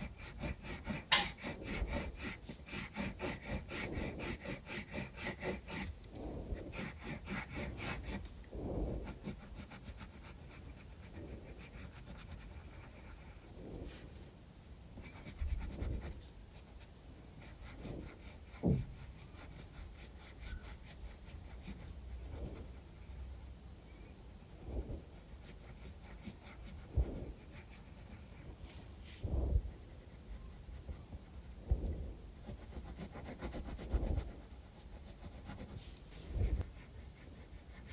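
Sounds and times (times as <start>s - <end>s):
pencil scratching on paper: 0.0s - 14.0s, 15.0s - 23.5s, 24.1s - 28.6s, 29.7s - 37.9s.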